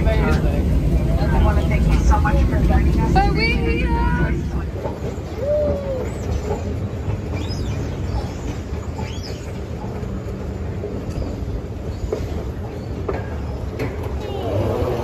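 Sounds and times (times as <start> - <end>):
escalator low rumble: 0.0 - 15.0.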